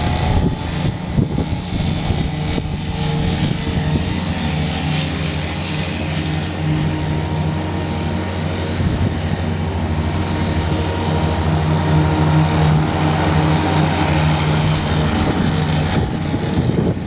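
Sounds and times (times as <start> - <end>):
diesel mower engine running: 0.0 - 17.0.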